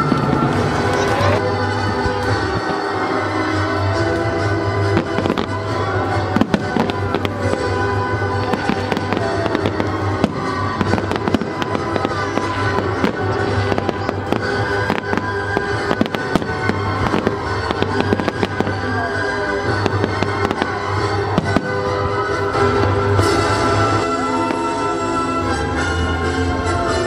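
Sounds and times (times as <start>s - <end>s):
firework bangs and crackles: 0.0s - 27.0s
music: 0.0s - 27.0s.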